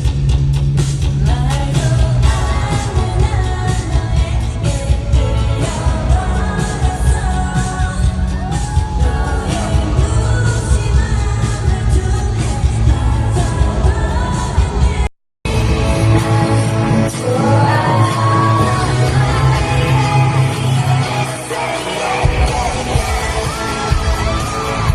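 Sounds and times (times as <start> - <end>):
heavy bass: 0.0 - 24.9
person singing: 1.2 - 24.9.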